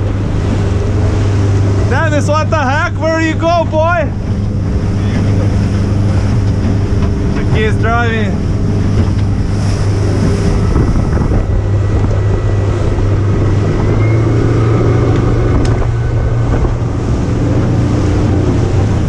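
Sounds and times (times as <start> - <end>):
motorboat engine running: 0.0 - 19.0
water rushing past hull: 0.0 - 19.0
wind buffeting microphone: 0.0 - 19.0.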